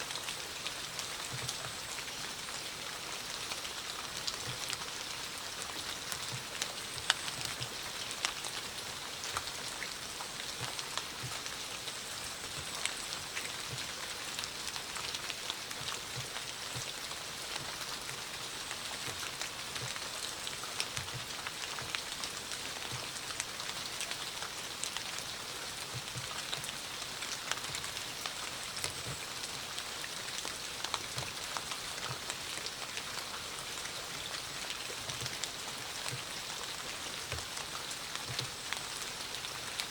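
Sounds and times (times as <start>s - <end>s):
steady rain hiss: 0.0s - 39.9s
raindrops tapping close by: 0.1s - 39.9s.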